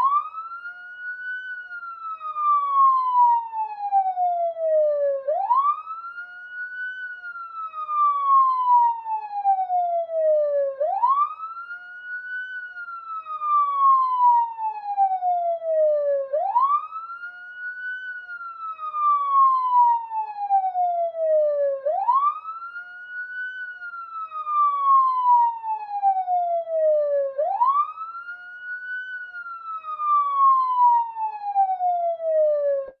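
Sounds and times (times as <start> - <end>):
police siren wailing: 0.0 - 33.0.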